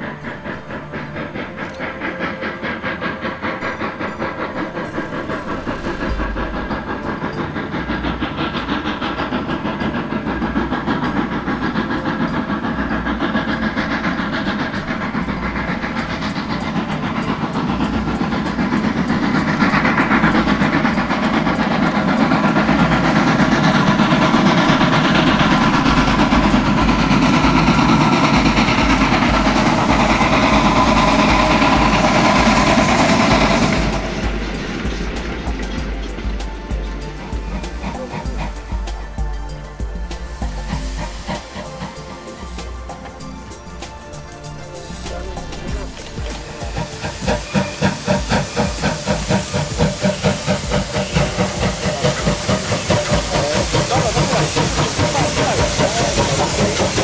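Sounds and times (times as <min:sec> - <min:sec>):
steam locomotive exhaust: 0:00.0 - 0:57.0.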